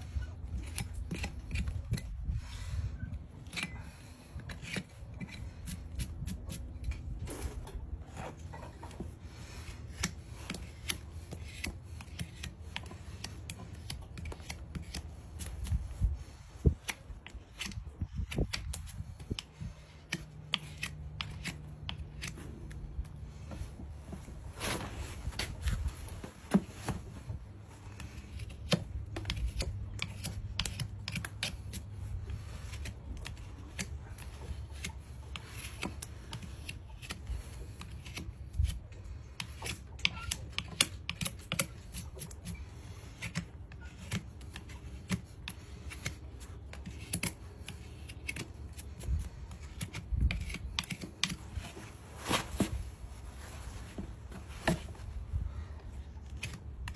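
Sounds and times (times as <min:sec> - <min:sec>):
knife paring hoof: 0:00.0 - 0:56.9.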